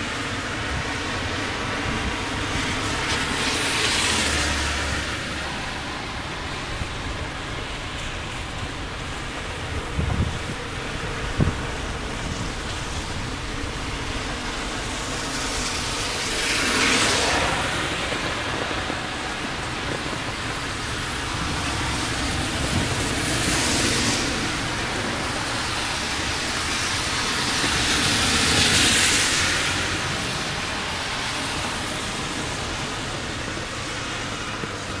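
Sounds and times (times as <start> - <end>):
heavy rain: 0.0 - 35.0
tyres hissing on wet road: 0.0 - 35.0.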